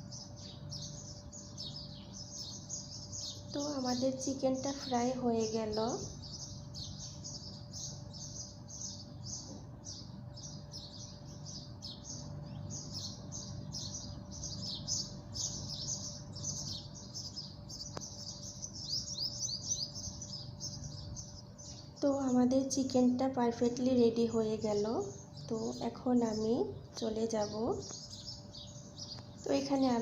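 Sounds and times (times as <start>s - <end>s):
low steady hum: 0.0s - 30.0s
small birds chirping rapidly: 0.0s - 30.0s.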